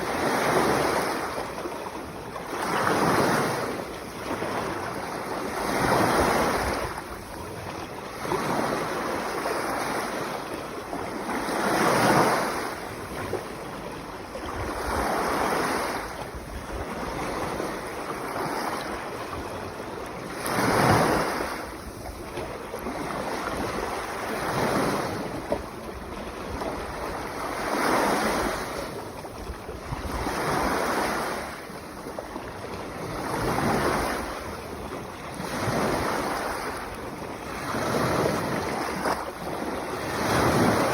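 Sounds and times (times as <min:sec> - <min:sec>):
sea waves washing ashore: 0:00.0 - 0:40.9.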